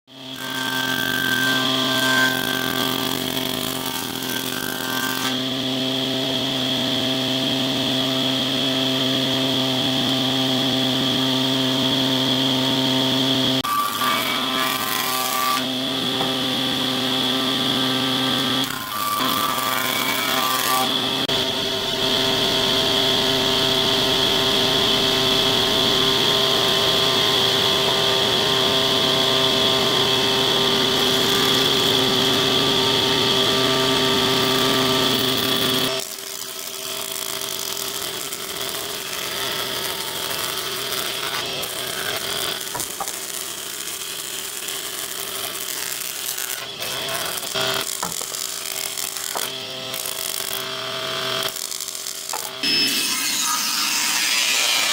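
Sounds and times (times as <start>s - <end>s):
wood planing machines running: 0.1s - 54.9s.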